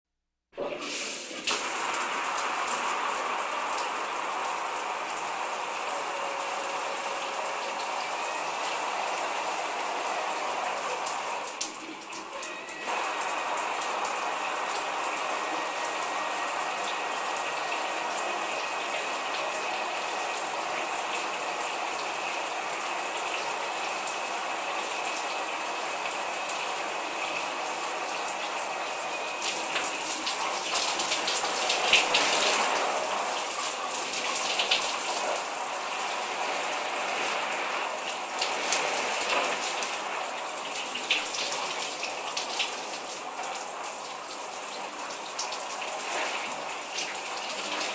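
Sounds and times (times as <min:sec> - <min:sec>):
shower water spraying: 0:00.6 - 0:47.9.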